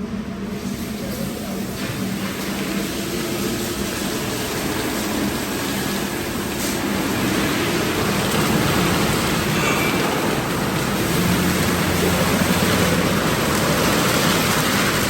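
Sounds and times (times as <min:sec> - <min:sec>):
low machinery hum: 0:00.0 - 0:15.0
water spray rushing: 0:00.5 - 0:15.0.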